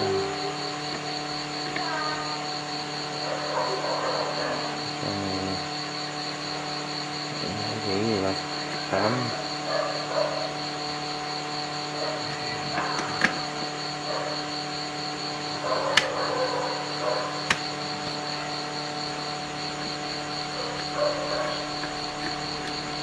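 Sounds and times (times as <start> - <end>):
electrical hum with high whine: 0.0 - 23.0.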